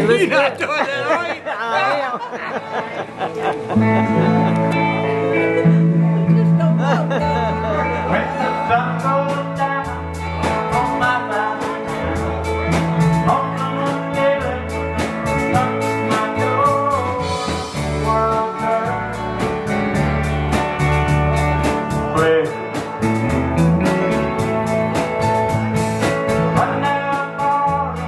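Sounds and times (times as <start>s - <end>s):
live country band playing: 0.0s - 28.0s.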